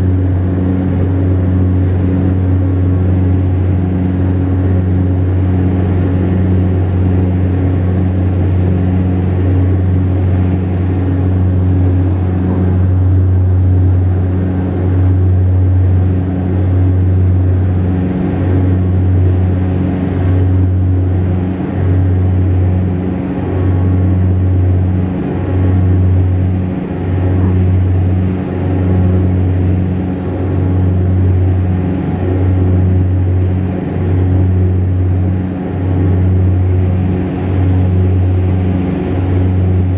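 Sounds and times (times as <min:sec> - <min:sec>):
turboprop engines droning in cabin: 0:00.0 - 0:39.9.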